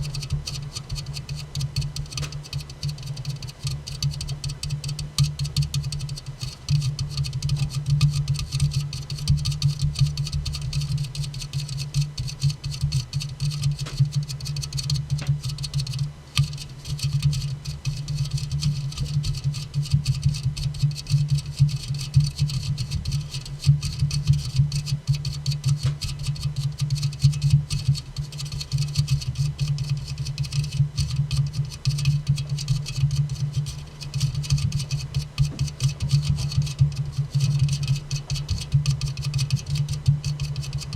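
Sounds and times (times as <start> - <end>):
tapping on a soda can: 0.5 - 40.9.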